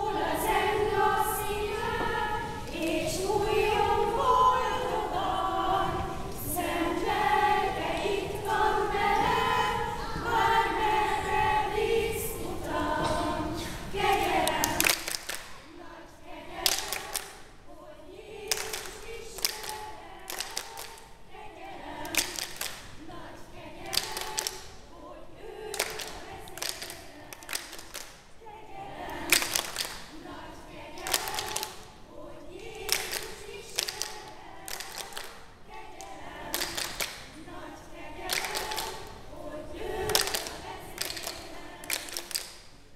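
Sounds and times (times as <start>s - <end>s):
choir singing unaccompanied: 0.0s - 42.9s.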